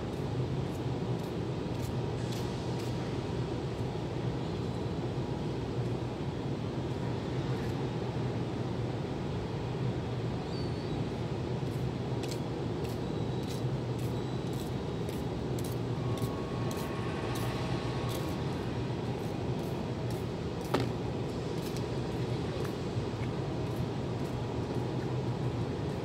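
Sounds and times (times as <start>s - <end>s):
low machinery hum: 0.0s - 26.0s.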